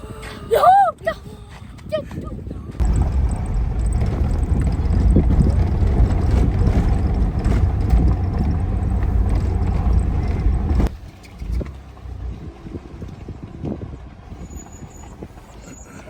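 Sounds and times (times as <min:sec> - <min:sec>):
vehicle rumbling over rough road: 0:02.8 - 0:16.0.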